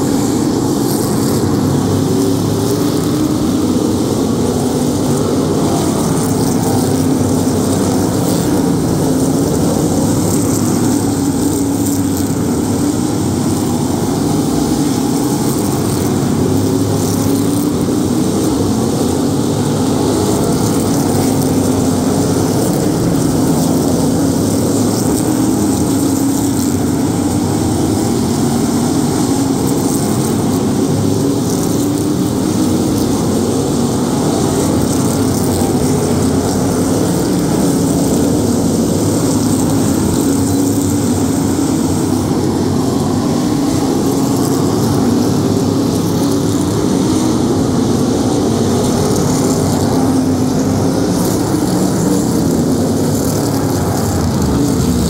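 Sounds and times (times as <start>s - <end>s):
racing car engines droning: 0.0s - 55.0s.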